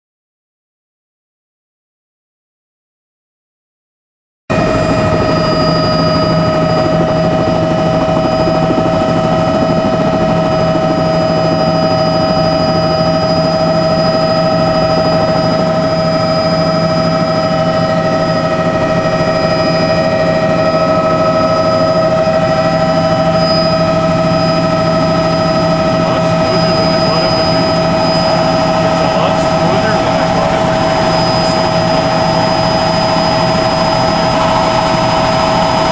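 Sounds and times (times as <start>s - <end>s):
aircraft engine drone: 4.5s - 35.9s
steady whining tones: 4.5s - 35.9s.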